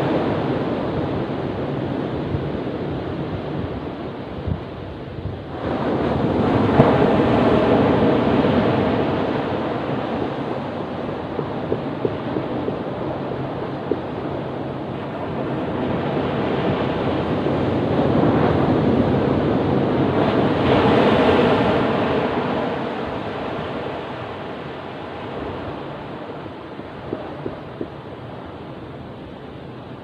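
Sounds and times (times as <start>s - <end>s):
ocean wave washing: 0.0s - 30.0s.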